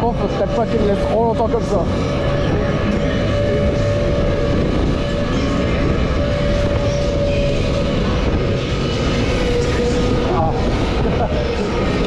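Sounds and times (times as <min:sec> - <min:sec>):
funfair noise: 0:00.0 - 0:12.0
swing ride mechanical rumble: 0:00.0 - 0:12.0.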